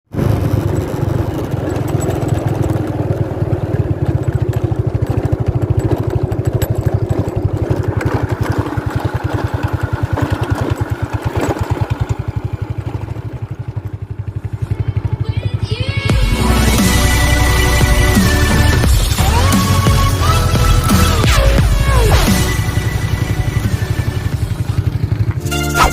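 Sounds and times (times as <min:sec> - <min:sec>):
engine running with pulsing beat: 0:00.0 - 0:25.9.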